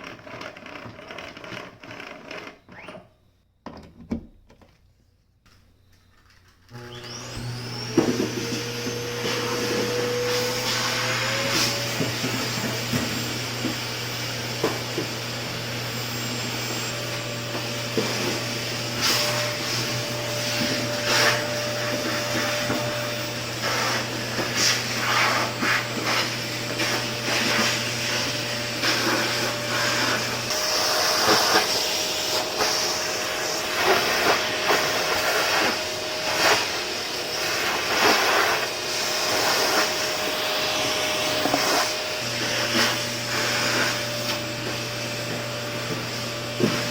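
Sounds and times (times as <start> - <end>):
vacuum cleaner running: 6.7 - 46.9.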